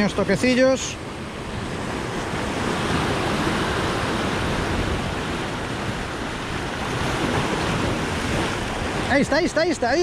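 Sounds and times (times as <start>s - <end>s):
surf washing against rocky shore: 0.0s - 10.0s.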